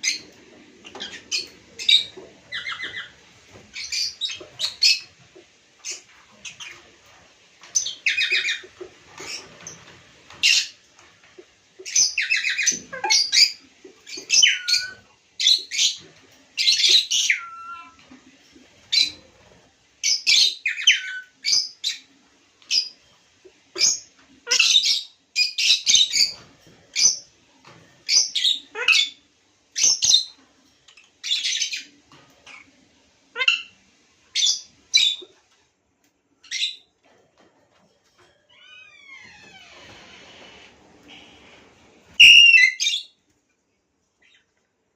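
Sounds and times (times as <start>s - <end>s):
lovebirds chirping and squawking: 0.0s - 35.4s, 36.4s - 37.0s, 38.2s - 43.2s, 44.2s - 44.5s.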